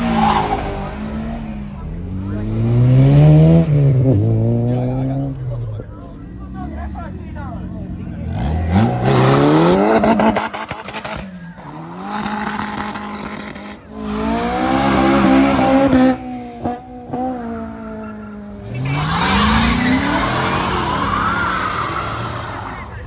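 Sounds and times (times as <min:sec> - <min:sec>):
car engines accelerating hard: 0:00.0 - 0:23.0.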